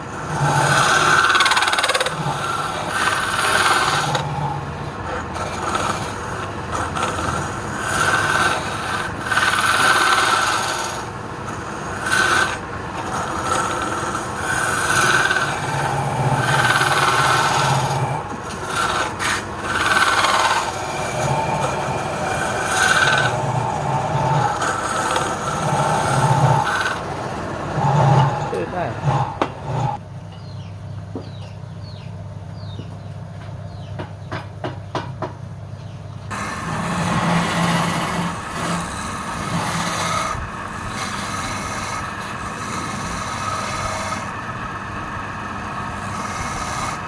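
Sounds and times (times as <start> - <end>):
tool scraping spinning wood: 0.0 - 30.0, 36.3 - 47.0
low motor hum: 0.0 - 47.0.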